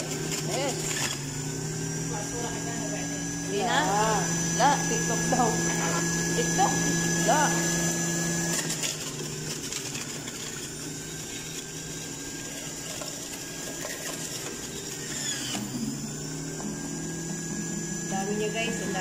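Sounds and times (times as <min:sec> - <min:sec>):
grating disc crackling: 0:00.0 - 0:19.0
juicer motor hum and whine: 0:00.0 - 0:19.0.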